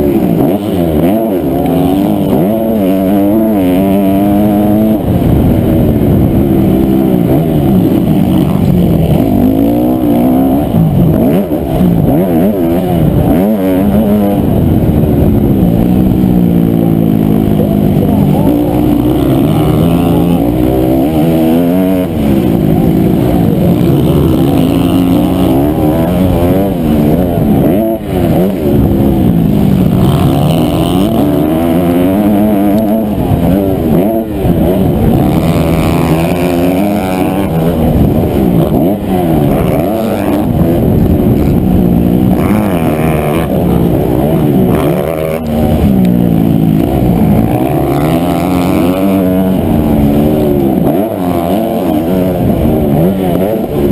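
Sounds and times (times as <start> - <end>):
motorcycle engine revving hard: 0.0 - 53.9.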